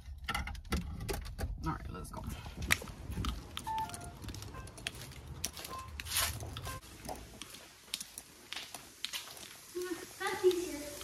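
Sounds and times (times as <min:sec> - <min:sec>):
footsteps: 0:02.2 - 0:11.0.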